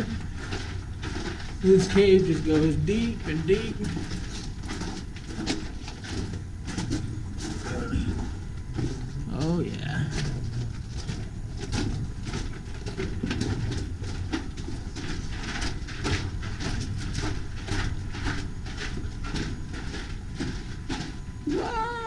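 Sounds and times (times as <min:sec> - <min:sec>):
footsteps crunching on rocky floor: 0:00.0 - 0:22.0.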